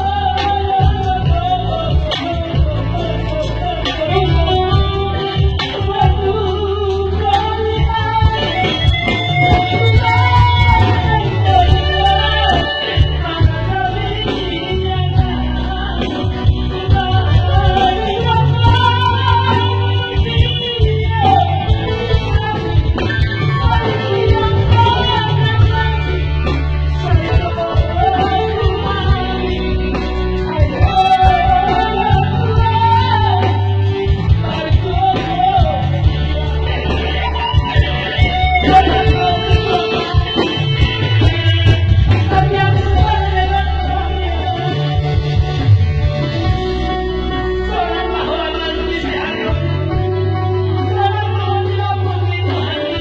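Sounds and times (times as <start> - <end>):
guitar: 0.0 - 53.0
person singing: 0.0 - 53.0
steady bass: 0.0 - 53.0.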